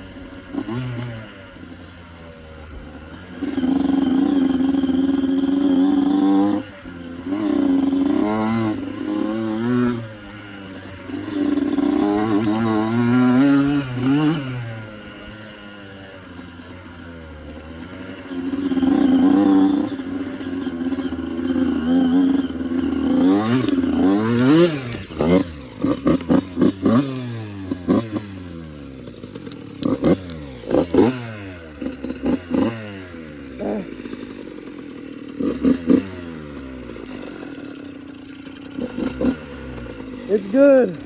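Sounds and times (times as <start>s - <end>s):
two-stroke dirt bike engine revving: 0.0s - 41.0s.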